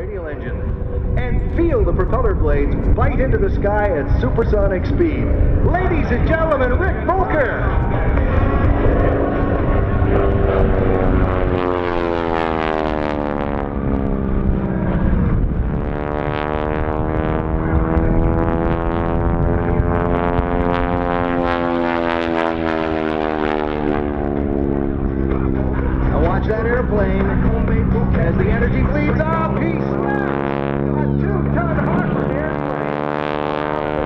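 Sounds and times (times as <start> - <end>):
propeller aircraft engine roaring: 0.0 - 34.0.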